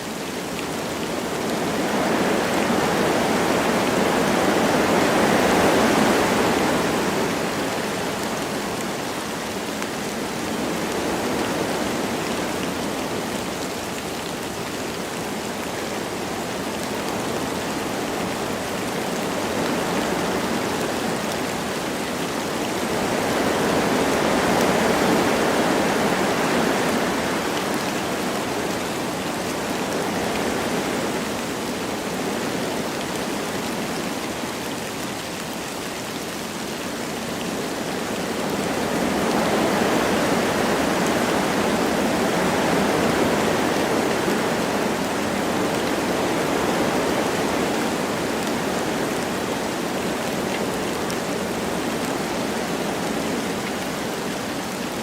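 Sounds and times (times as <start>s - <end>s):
light rain: 0.0s - 55.0s
wind through forest trees: 0.0s - 55.0s.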